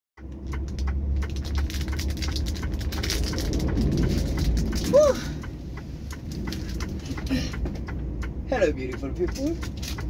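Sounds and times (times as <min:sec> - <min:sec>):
raindrops ticking on truck roof: 0:00.2 - 0:10.0
truck engine idling: 0:00.2 - 0:10.0.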